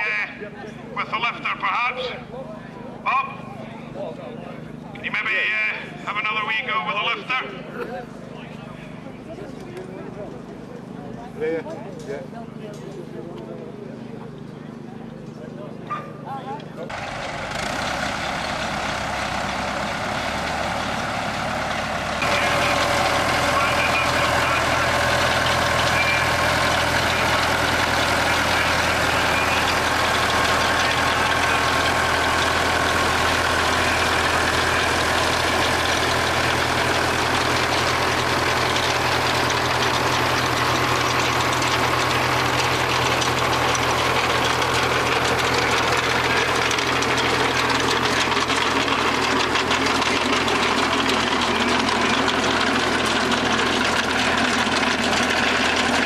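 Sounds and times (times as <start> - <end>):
tractor engine running: 8.0 - 56.0.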